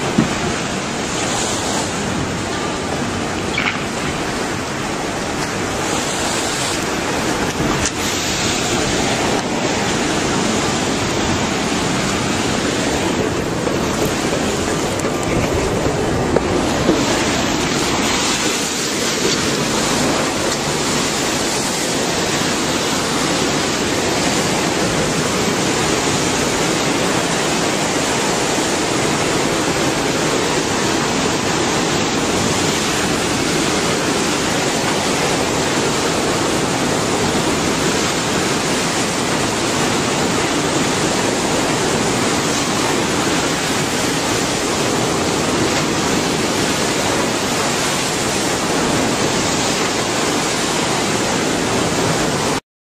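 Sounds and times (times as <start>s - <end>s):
floodwater rushing: 0.0s - 52.6s.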